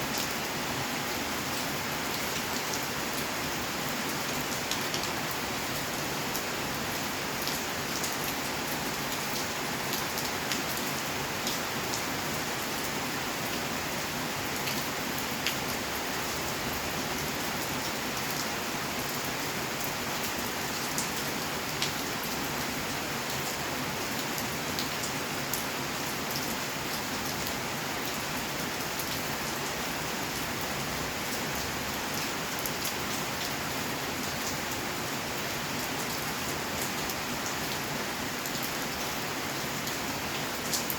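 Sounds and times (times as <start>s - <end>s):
rain hissing on surfaces: 0.0s - 40.9s.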